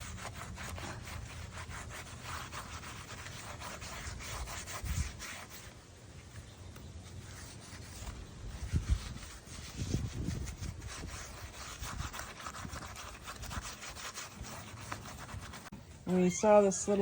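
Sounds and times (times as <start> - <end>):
rubbing strokes on a surface: 0.0 - 17.0.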